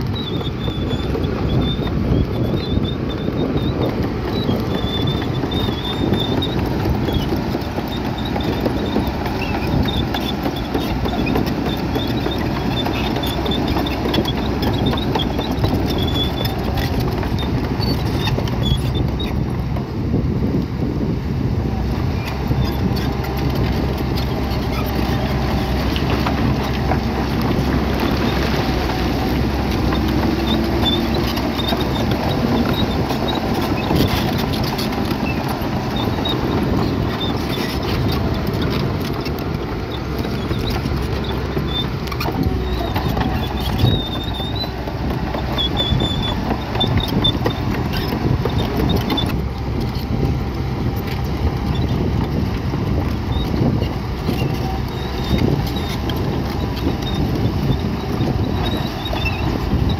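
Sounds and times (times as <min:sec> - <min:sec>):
short high squeaks: 0:00.0 - 0:19.5, 0:22.1 - 0:50.2, 0:53.3 - 0:59.9
bulldozer diesel engine running: 0:00.0 - 0:59.9.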